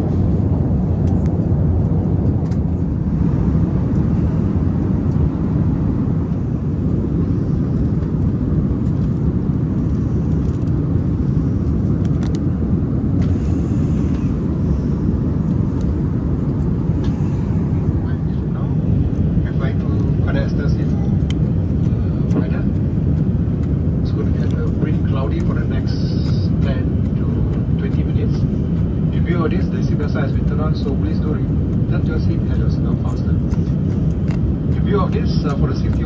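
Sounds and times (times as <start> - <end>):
airliner cabin roar: 0.0 - 36.0.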